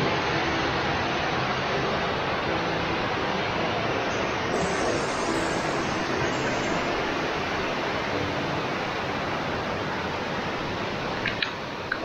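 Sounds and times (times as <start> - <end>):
stream water cascading over rocks: 0.0 - 12.0.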